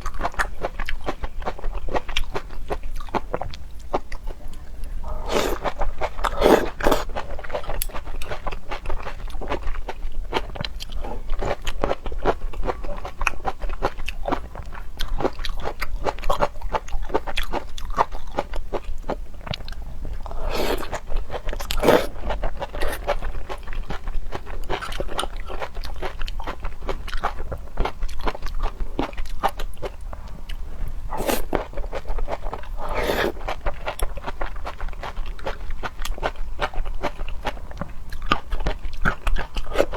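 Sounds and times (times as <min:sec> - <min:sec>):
chewing and crunching seafood: 0:00.0 - 0:39.9.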